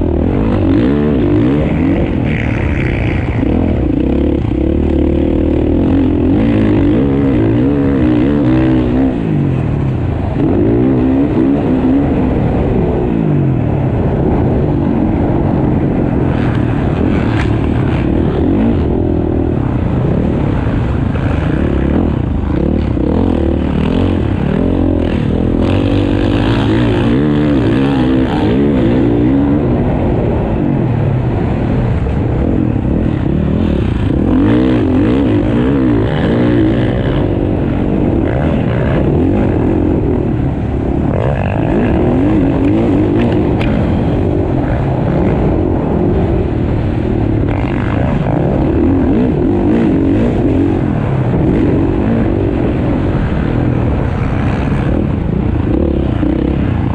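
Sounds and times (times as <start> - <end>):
motocross bike engines revving: 0.0 - 56.9.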